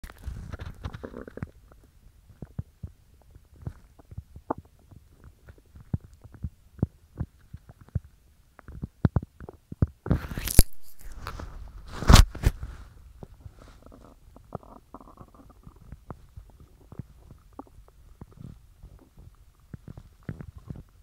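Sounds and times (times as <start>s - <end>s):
stomach gurgling: 0.0s - 21.0s.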